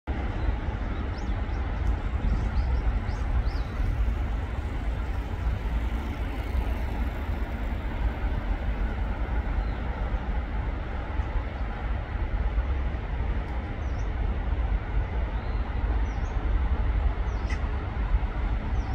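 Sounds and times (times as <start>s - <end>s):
outdoor background rumble: 0.1s - 18.9s.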